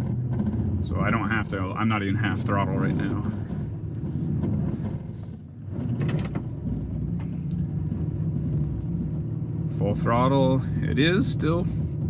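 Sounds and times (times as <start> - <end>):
engine working hard on climb: 0.0 - 12.0.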